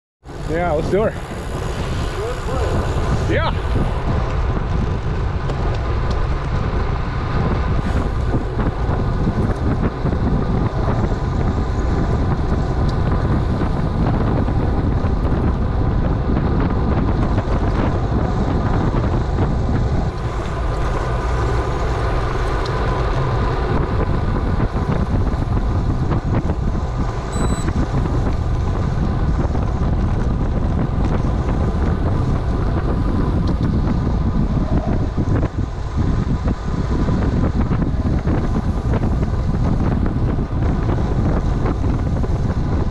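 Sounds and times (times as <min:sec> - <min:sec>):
wind buffeting microphone: 0:00.2 - 0:42.9.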